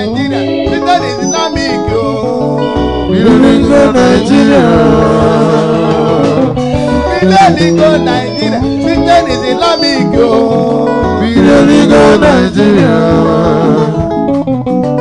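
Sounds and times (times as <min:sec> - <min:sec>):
man singing into microphone: 0:00.0 - 0:14.2
instrumental accompaniment: 0:00.0 - 0:15.0.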